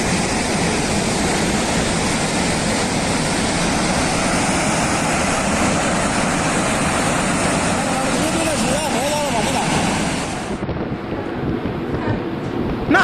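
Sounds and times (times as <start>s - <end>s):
floodwater rushing: 0.0s - 11.4s.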